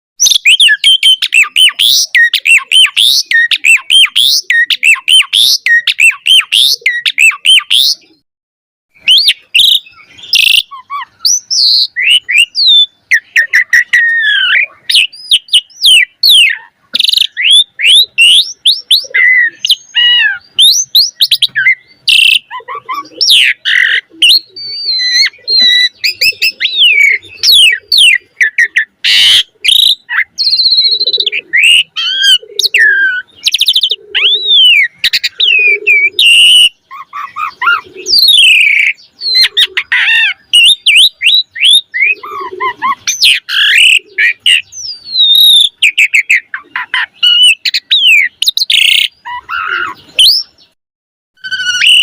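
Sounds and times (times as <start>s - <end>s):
starling singing: 0.2s - 8.2s, 8.9s - 50.8s, 51.4s - 52.0s.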